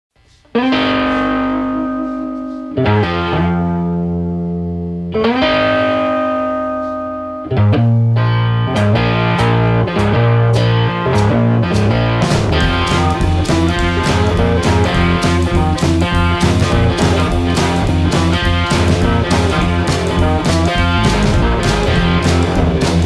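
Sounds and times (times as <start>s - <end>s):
distorted electric guitar: 0.4s - 23.0s.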